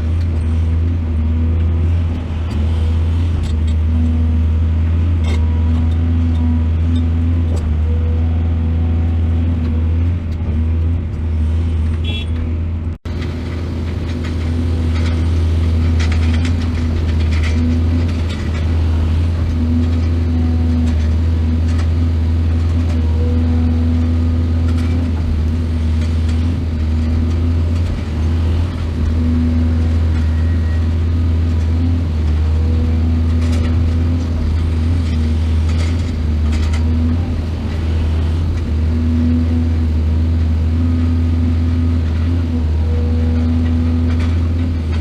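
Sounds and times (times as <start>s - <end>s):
excavator diesel engine droning: 0.0s - 45.0s.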